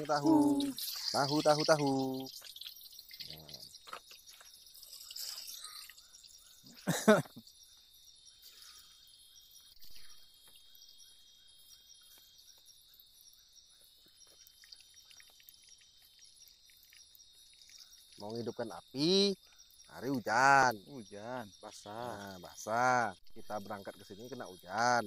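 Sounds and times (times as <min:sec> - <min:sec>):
faint water drips: 0:00.0 - 0:25.0
insects chirping: 0:00.0 - 0:25.0.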